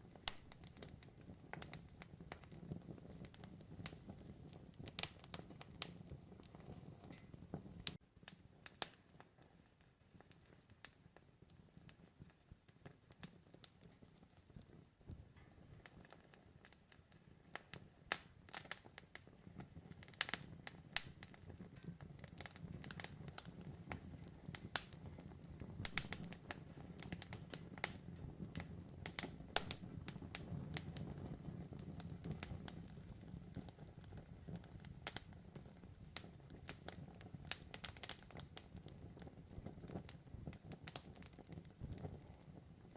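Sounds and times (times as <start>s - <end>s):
campfire crackling and popping: 0.0s - 42.9s
low rumble of burning fire: 0.0s - 42.9s.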